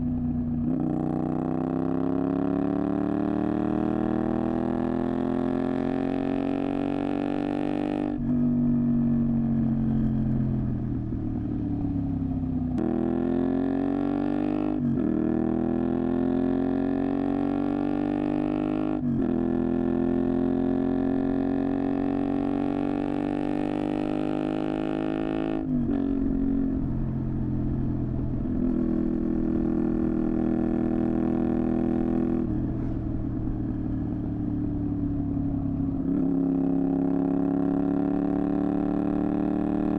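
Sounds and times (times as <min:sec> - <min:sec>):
motorcycle engine revving: 0:00.0 - 0:10.7, 0:12.8 - 0:39.9.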